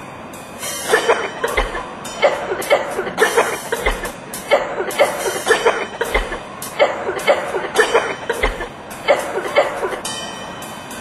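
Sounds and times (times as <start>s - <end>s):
short hacking coughs: 0.9s - 10.2s.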